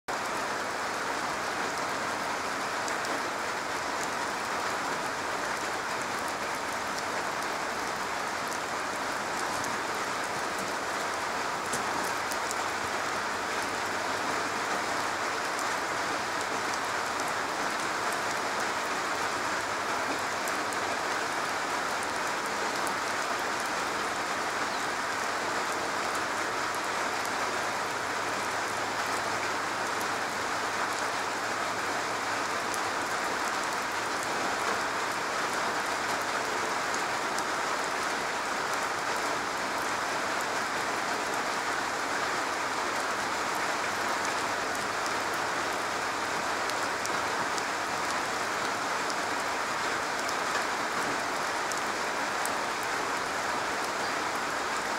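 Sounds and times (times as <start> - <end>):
rain on a roof: 0.1 - 54.9.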